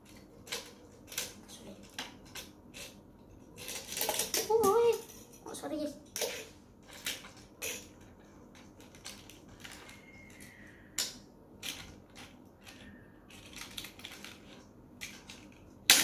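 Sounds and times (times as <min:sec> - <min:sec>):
plastic toy cars clicking and rattling: 0:00.0 - 0:16.0.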